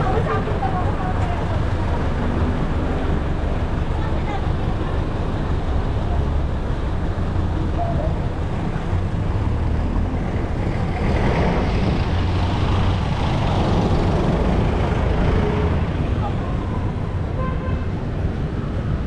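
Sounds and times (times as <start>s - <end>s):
passing vehicles engine rumble: 0.0s - 19.0s.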